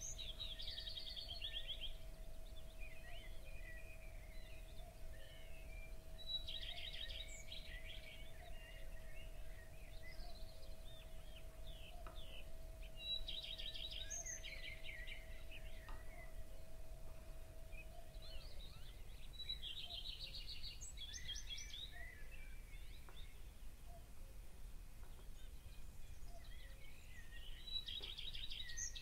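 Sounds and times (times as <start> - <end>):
songbird trilling and chirping: 0.0 - 24.1, 25.0 - 29.0
low background hum: 0.0 - 29.0.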